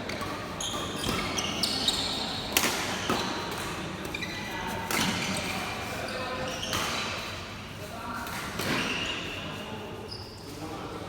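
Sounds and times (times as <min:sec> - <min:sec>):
shoes squeaking on court floor: 0:00.1 - 0:07.1, 0:08.6 - 0:10.6.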